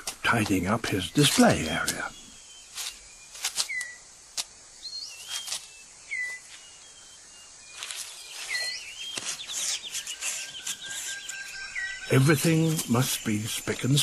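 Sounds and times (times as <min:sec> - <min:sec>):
dry rustling of leaves: 0:00.0 - 0:14.0
whistled bird calls: 0:01.4 - 0:04.1, 0:04.8 - 0:14.0.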